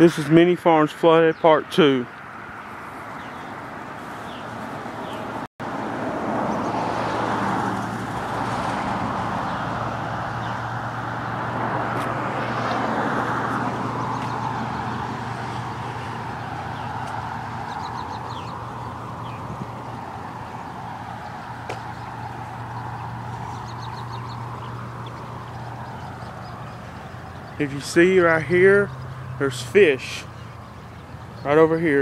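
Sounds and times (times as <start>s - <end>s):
vehicle passing: 0.0s - 32.0s
low engine hum: 2.2s - 32.0s.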